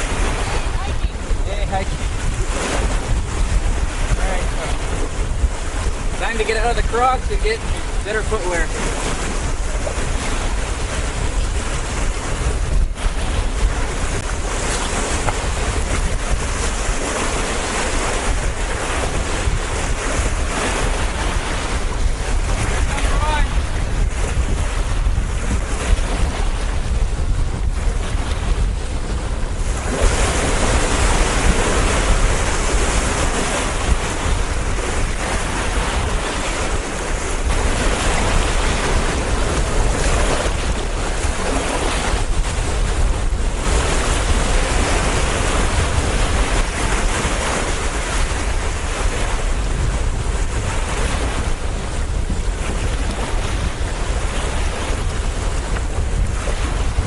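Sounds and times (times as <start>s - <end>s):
strong wind on microphone: 0.0s - 57.0s
waves washing on lake shore: 0.0s - 57.0s.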